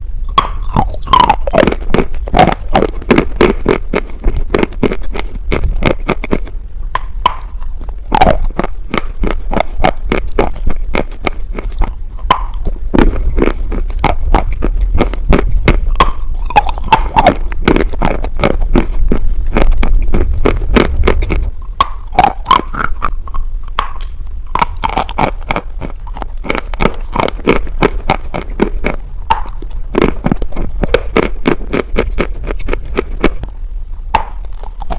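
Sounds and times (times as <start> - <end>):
crunchy chewing of chalk: 0.0 - 34.9.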